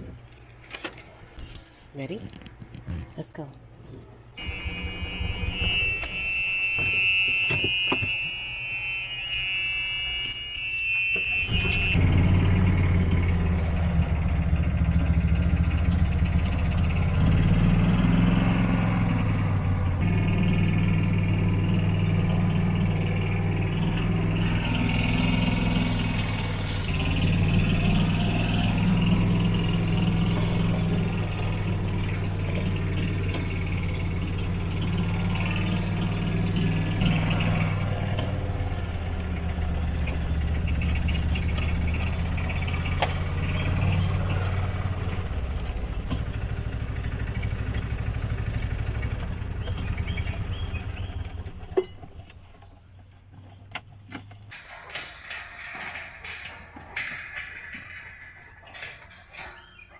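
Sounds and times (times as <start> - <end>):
golf cart engine driving: 4.4 - 6.1, 11.4 - 59.9.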